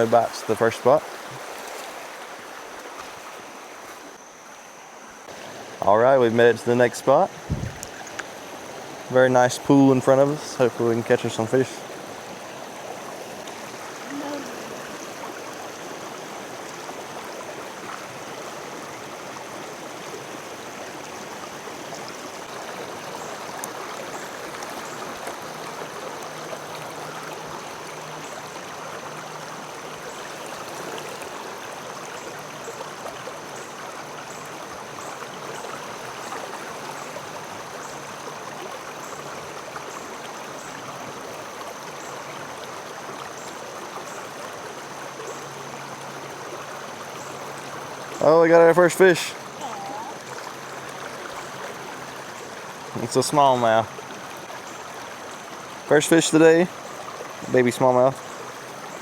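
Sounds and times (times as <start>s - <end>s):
creek water running over rocks: 0.0s - 59.0s.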